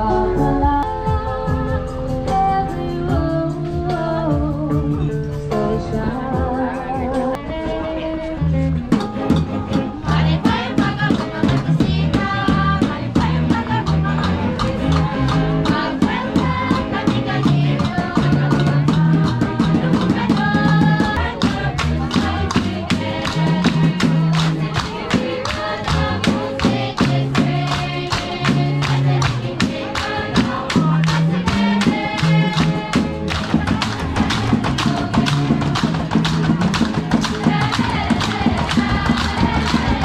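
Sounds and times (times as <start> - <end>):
music with steady beat and bass line: 0.0 - 40.0.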